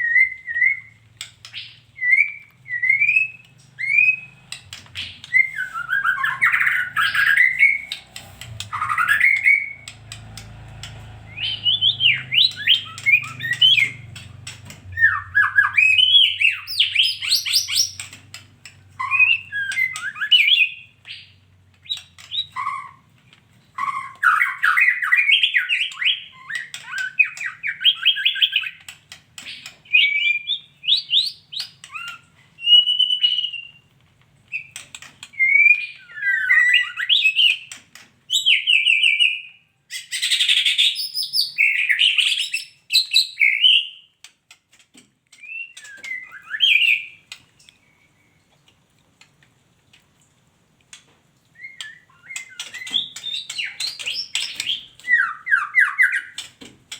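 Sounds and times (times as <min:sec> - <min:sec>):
bird calling with chirps and whistles: 0:00.0 - 0:10.0, 0:11.3 - 0:14.2, 0:14.8 - 0:18.2, 0:18.9 - 0:23.1, 0:23.7 - 0:28.8, 0:29.5 - 0:33.9, 0:34.5 - 0:44.1, 0:45.4 - 0:48.4, 0:51.6 - 0:56.4.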